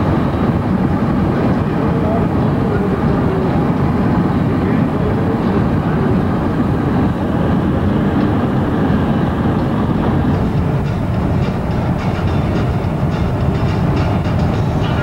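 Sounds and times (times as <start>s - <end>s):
road and wind rumble inside car: 0.0s - 15.0s.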